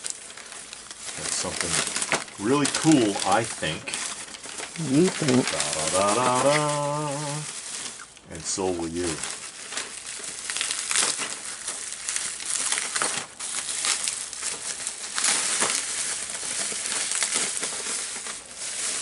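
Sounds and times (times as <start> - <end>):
paper and plastic bag crinkling: 0.0 - 19.0.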